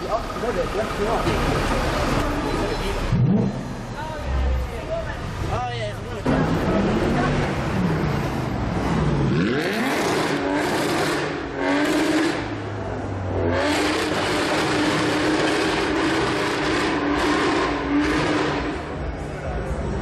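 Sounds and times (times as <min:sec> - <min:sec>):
car engine revving: 0:00.4 - 0:04.6, 0:06.2 - 0:20.0.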